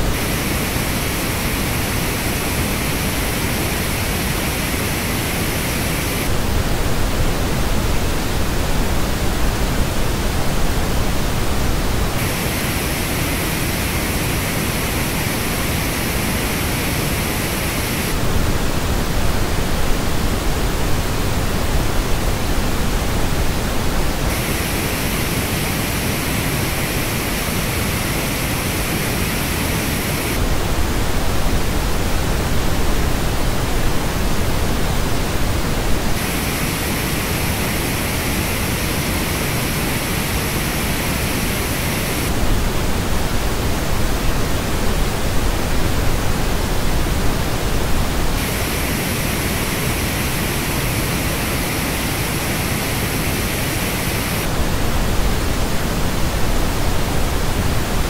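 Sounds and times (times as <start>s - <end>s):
pink noise test signal: 0.0s - 58.0s.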